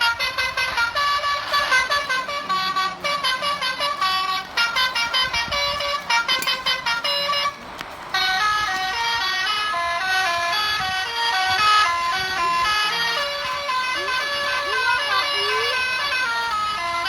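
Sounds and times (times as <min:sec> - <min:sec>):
multi-tone musical bus horn: 0:00.0 - 0:17.0.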